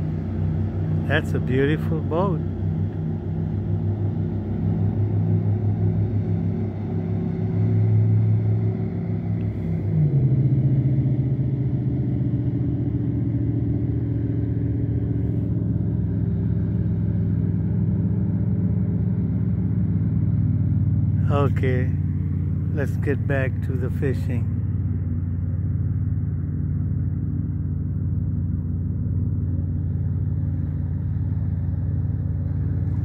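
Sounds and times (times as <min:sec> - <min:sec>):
yacht engines droning: 0:00.0 - 0:33.0.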